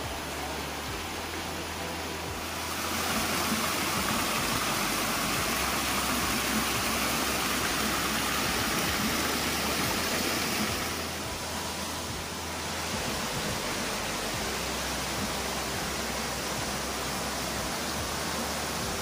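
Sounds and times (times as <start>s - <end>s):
stream cascading over rocks: 0.0s - 19.0s.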